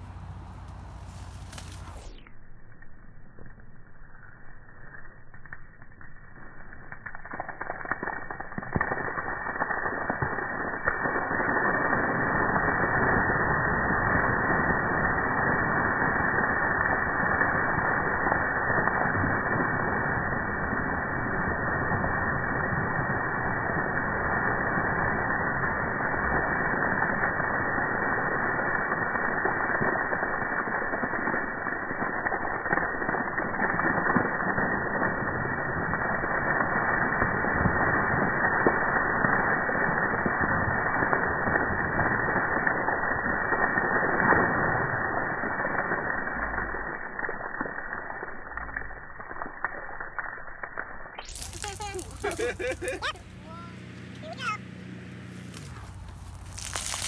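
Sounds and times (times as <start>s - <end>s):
water pouring and splashing: 0.0s - 53.4s, 55.4s - 57.0s.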